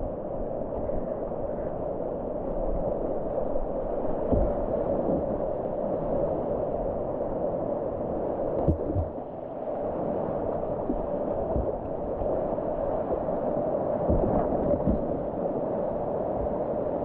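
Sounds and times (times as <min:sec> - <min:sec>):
river water rushing and gurgling: 0:00.1 - 0:17.0.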